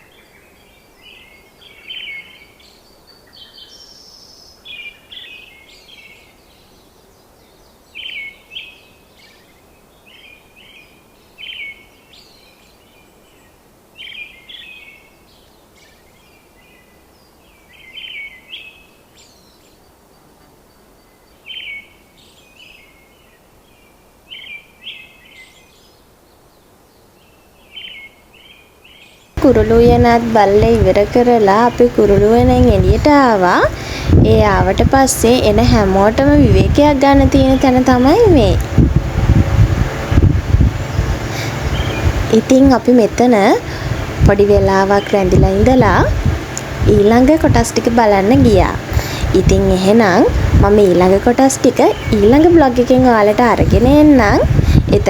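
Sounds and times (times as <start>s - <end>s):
birds chirping: 0.0s - 55.0s
steady background hiss: 0.0s - 55.0s.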